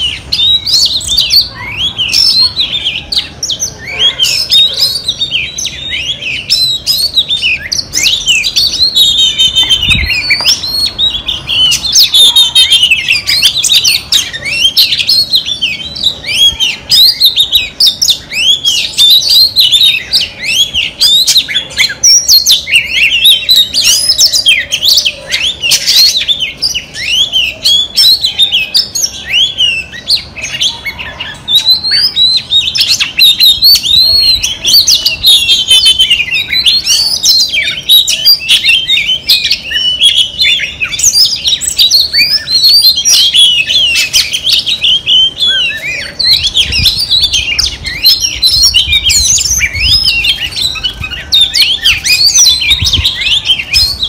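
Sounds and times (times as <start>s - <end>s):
bird singing whistled notes: 0.0s - 54.0s.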